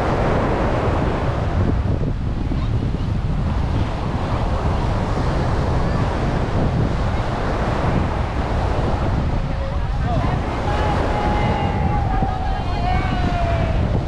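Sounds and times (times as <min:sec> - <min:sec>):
surf washing: 0:00.0 - 0:14.0
wind buffeting microphone: 0:00.0 - 0:14.0.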